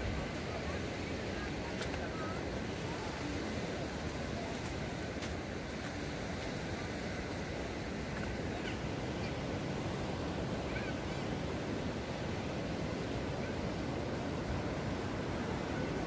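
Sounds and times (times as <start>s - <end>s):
sea surf on rocks: 0.0s - 16.0s.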